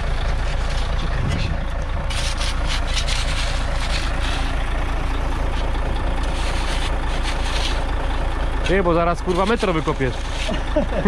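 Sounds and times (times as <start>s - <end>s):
vehicle engine idling: 0.0s - 11.0s
shovel scraping ground: 0.2s - 4.7s, 5.4s - 7.9s, 8.7s - 10.7s.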